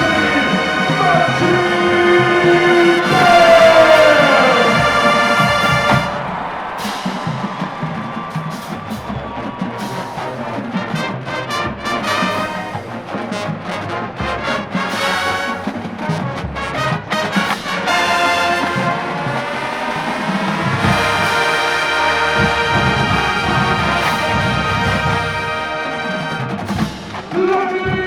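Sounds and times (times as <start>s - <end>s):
drums: 0.0s - 28.0s
marching band brass chords: 0.0s - 28.0s.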